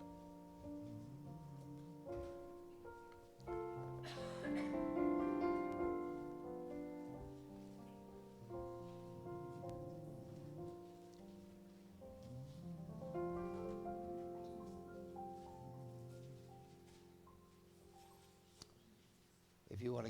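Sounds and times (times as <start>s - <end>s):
piano music: 0.0s - 19.4s.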